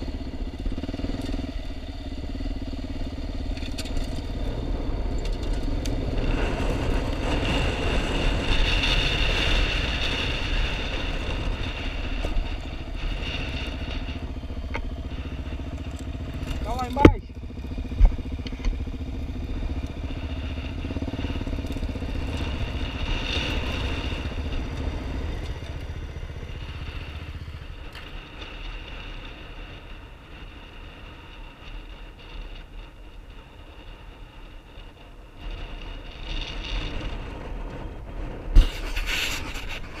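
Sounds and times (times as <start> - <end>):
quad bike engine running: 0.0 - 40.0.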